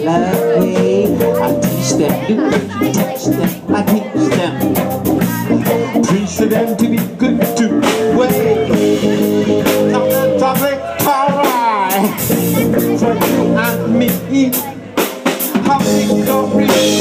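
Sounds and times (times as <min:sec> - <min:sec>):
drum kit with cymbal hits: 0:00.0 - 0:17.0
electric guitars: 0:00.0 - 0:17.0.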